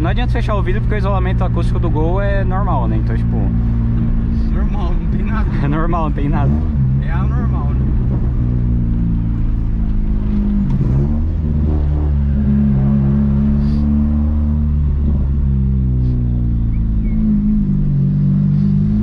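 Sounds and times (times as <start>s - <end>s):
car engine while driving: 0.0s - 19.0s.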